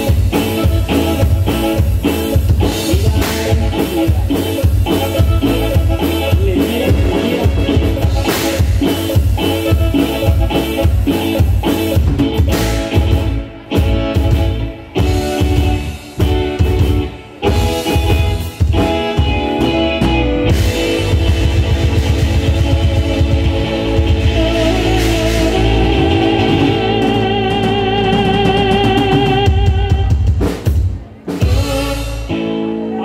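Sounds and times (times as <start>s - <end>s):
band music with drums bass and guitar: 0.0s - 33.0s.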